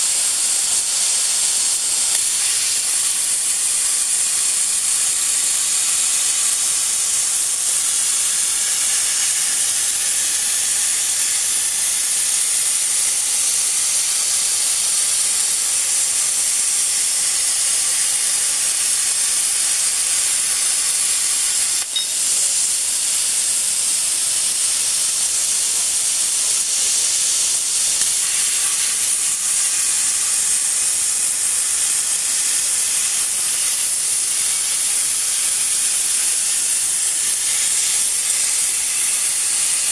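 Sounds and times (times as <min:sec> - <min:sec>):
plasma torch hissing: 0:00.0 - 0:39.9.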